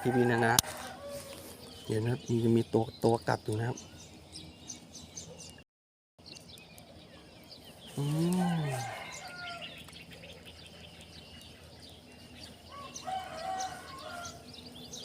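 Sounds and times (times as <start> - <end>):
birds chirping and trilling: 0.0 - 5.6, 6.2 - 15.0.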